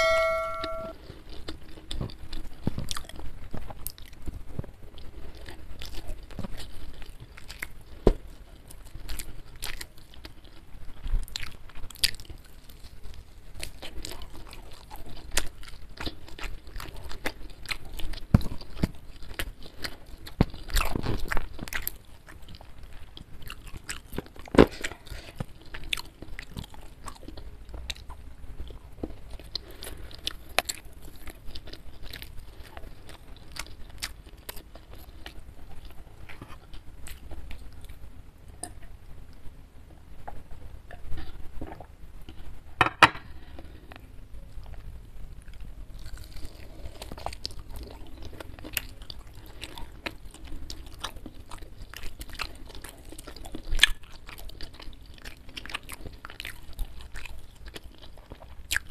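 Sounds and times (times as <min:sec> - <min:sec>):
chewing crunchy food: 0:01.0 - 0:58.9.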